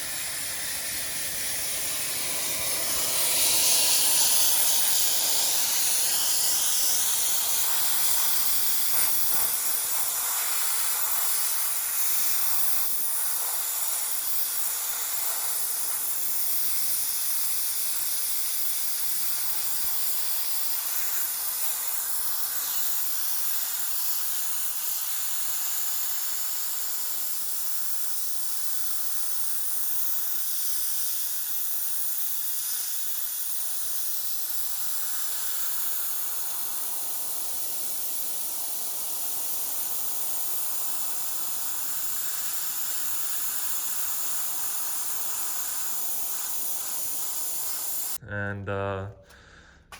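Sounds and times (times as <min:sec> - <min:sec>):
sandblaster hissing: 0:00.0 - 0:48.2.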